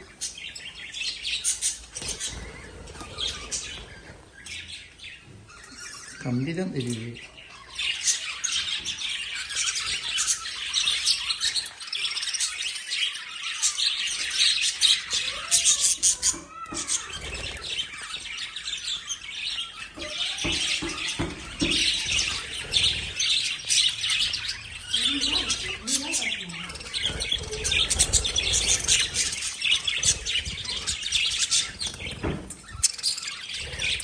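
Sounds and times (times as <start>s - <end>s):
lovebirds chirping and squawking: 0.0s - 34.0s.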